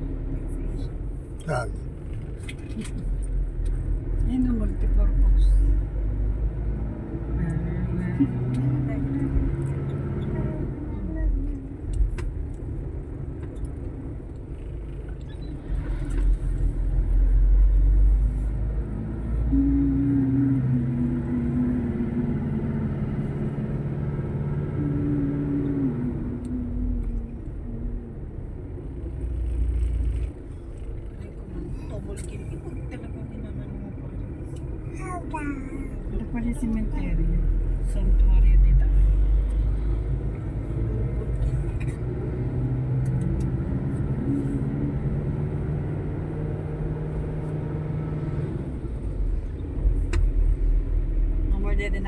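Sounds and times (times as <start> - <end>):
road rumble: 0.0 - 52.0
vehicle engine running: 0.0 - 52.0.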